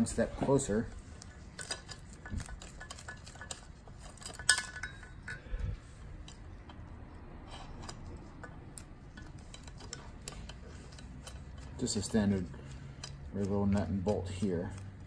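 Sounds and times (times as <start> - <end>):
metal bars clinking: 0.0 - 14.8.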